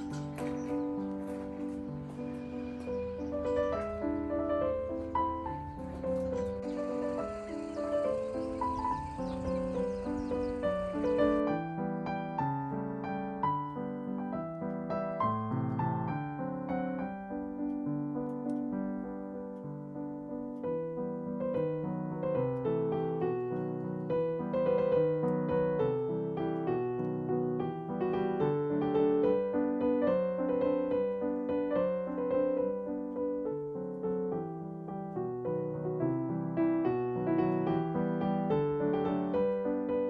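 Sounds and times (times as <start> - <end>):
gentle piano tune: 0.0 - 40.0.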